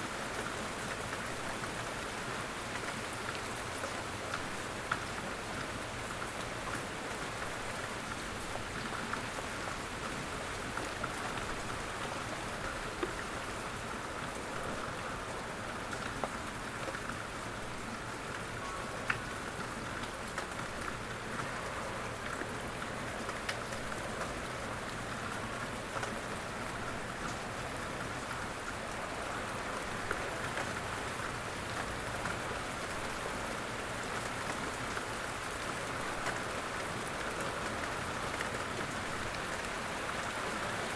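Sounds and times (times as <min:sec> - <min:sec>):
steady rain patter: 0:00.0 - 0:40.9.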